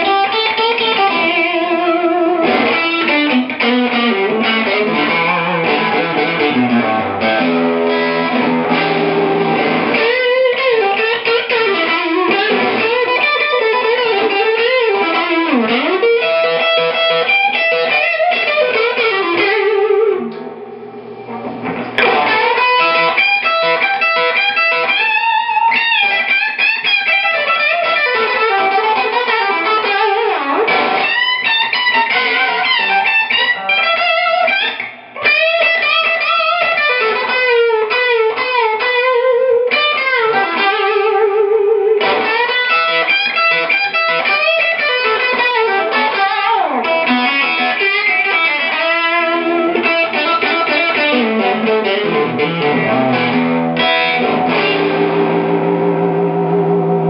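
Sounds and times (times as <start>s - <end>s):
electric guitar lead lines: 0.0s - 57.0s.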